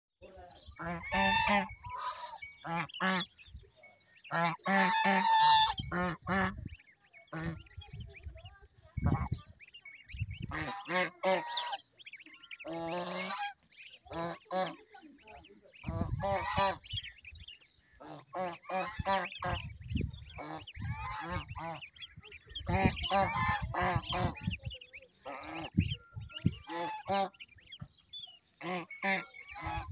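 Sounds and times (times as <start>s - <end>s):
geese honking: 0.6s - 3.6s, 4.2s - 8.4s, 9.0s - 29.9s.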